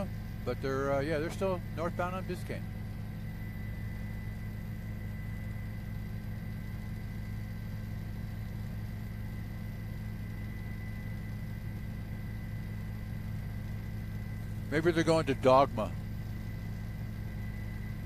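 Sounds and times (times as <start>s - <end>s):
faint high whining tones: 0.0s - 18.0s
vehicle engine drone: 0.0s - 18.0s.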